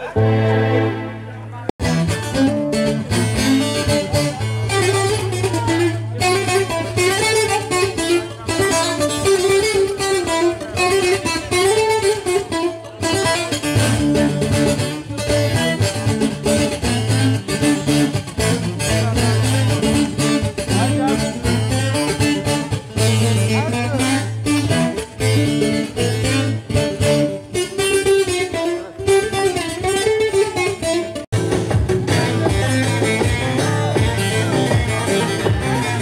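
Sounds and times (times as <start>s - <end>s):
amplified folk dance music: 0.0s - 28.9s, 29.6s - 36.0s
plucked-string melody: 0.0s - 36.0s.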